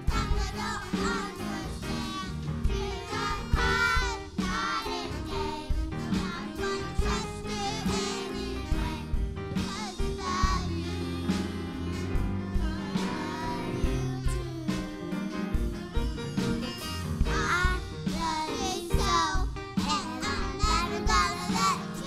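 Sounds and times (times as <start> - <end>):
children singing gospel song: 0.0 - 22.0
instrumental accompaniment with bass: 0.0 - 22.0.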